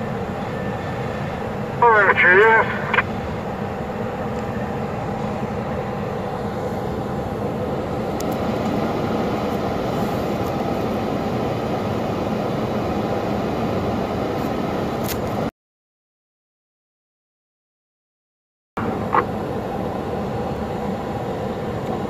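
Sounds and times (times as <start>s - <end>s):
helicopter engines and rotor running: 0.0s - 15.5s, 18.8s - 22.0s.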